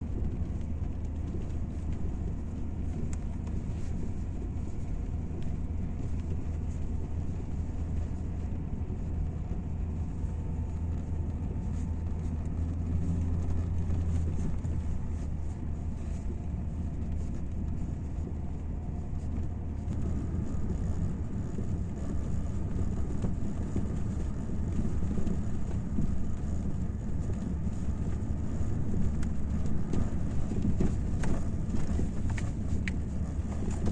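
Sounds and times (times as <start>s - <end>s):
car road noise rumble: 0.0s - 33.9s.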